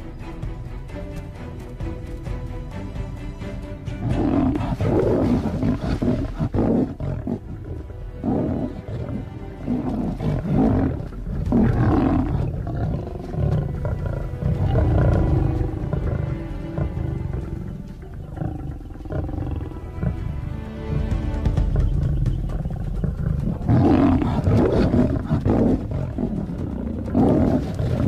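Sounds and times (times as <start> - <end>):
background music: 0.0 - 28.0
lions roaring and growling: 4.0 - 28.0.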